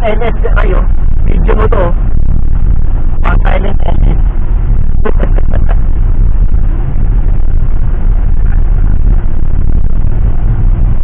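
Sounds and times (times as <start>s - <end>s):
jet airliner cabin rumble: 0.0s - 11.0s.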